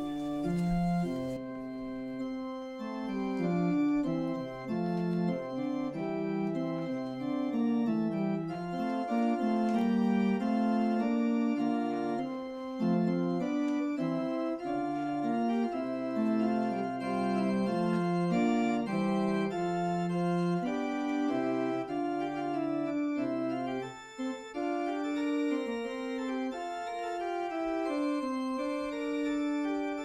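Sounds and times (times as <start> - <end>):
church organ playing chords: 0.0 - 30.0.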